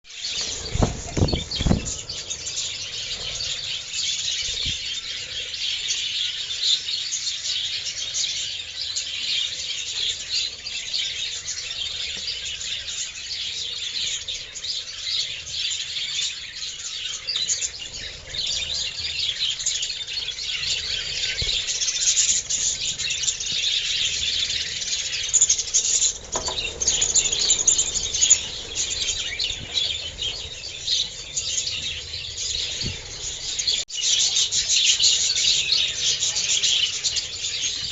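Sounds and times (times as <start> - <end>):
budgerigars chattering and squawking: 0.2 - 37.9.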